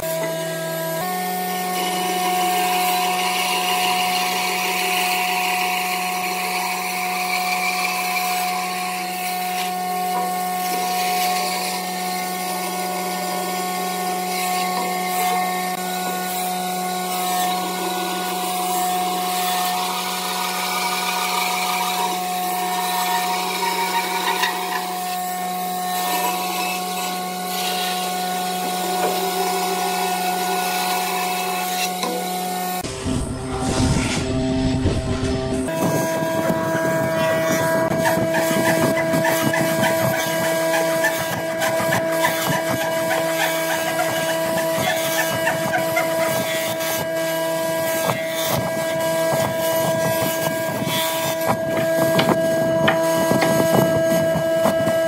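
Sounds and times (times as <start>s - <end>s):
band saw cutting wood: 0.0s - 55.0s.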